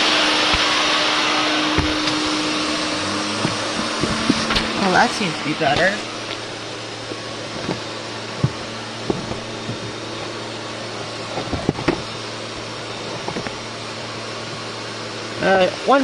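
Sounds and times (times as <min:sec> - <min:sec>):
central vacuum running: 0:00.0 - 0:16.0.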